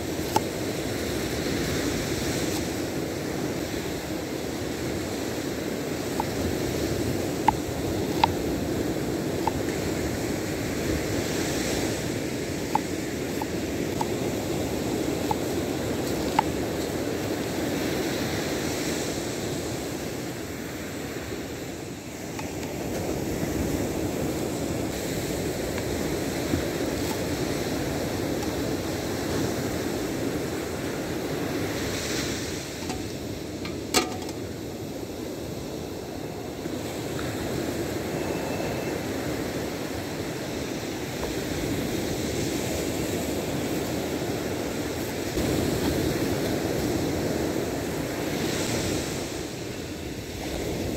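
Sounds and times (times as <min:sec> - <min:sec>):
surf breaking on beach: 0:00.0 - 0:50.9.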